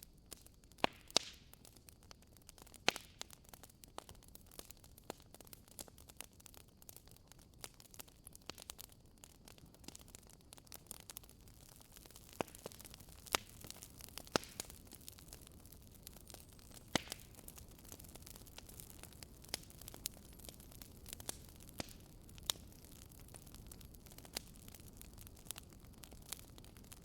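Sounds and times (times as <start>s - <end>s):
faint low hiss: 0.0s - 27.0s
wood fire pops and snaps: 0.0s - 27.0s.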